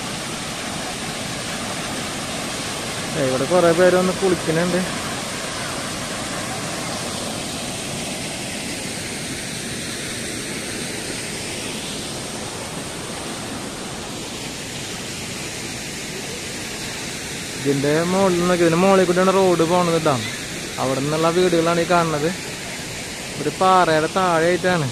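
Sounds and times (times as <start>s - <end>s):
small waterfall rushing: 0.0s - 24.9s.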